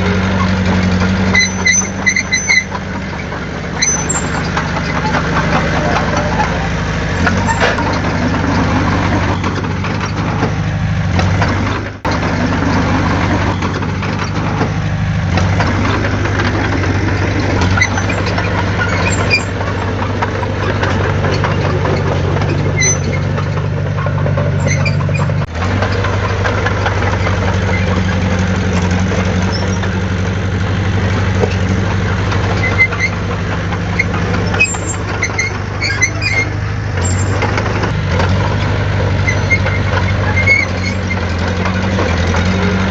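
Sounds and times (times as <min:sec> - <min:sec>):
heavy machinery diesel engine running: 0:00.0 - 0:42.9.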